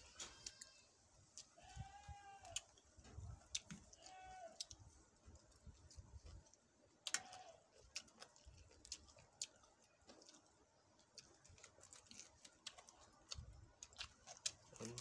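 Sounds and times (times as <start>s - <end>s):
people chewing and lip smacking: 0.0s - 15.0s
fingers picking at food: 0.1s - 15.0s.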